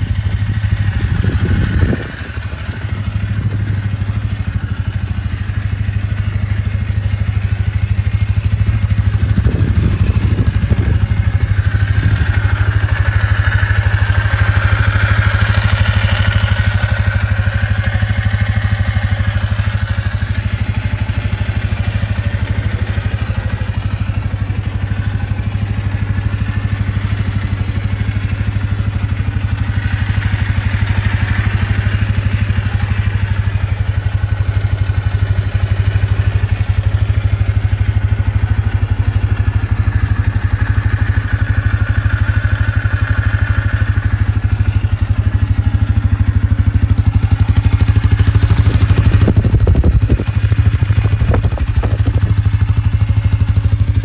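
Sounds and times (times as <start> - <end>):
atv engine idling: 0.0 - 54.0.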